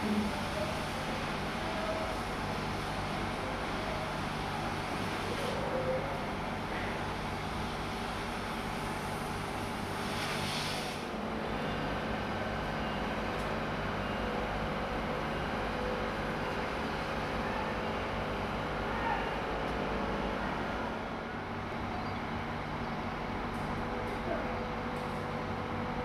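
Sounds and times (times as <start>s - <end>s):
construction machinery engines droning: 0.0s - 26.0s.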